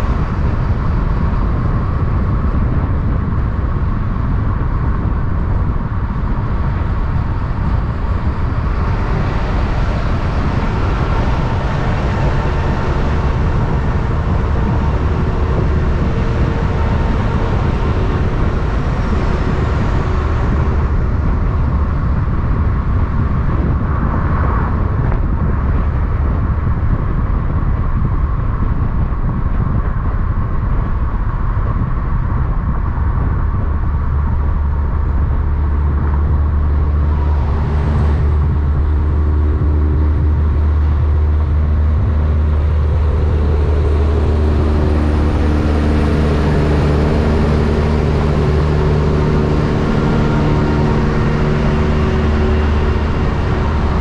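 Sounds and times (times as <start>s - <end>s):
diesel truck engine rumbling: 0.0s - 54.0s.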